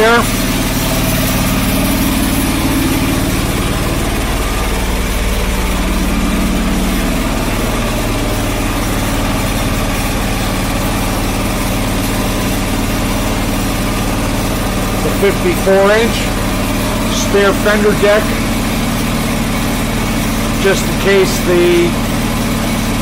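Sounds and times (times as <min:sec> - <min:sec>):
garden tractor engine idling: 0:00.0 - 0:23.0.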